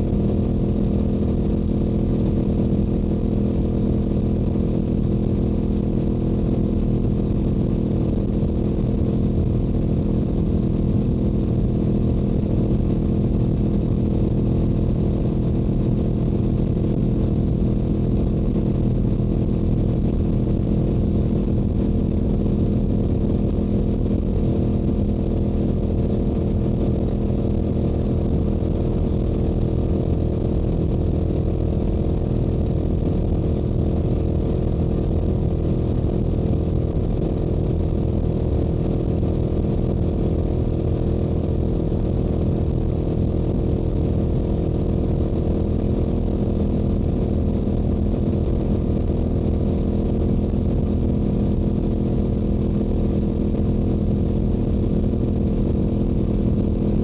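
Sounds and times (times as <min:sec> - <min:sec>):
wind noise: 0:00.0 - 0:57.0.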